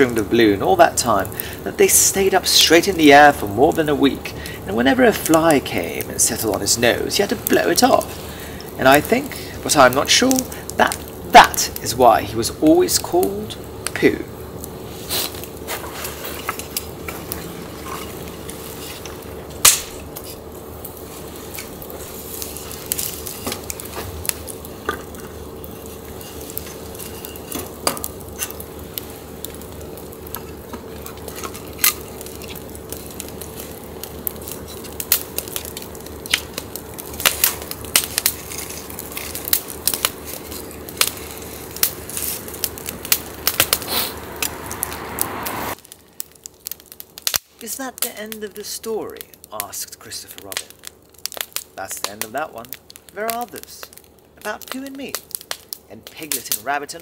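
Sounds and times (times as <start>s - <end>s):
faint steady hum: 0.0s - 57.0s
wood fire crackling: 0.0s - 57.0s.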